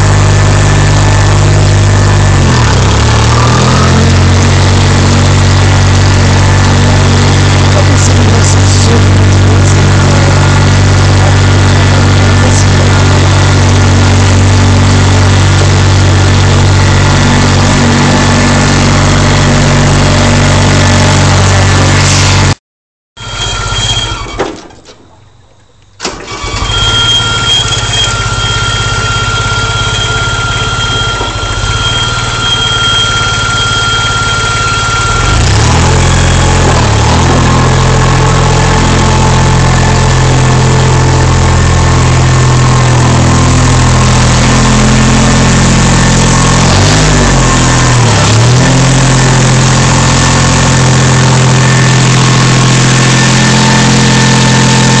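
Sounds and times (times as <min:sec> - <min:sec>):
ride-on mower engine running: 0:00.0 - 0:22.6, 0:26.0 - 0:55.0.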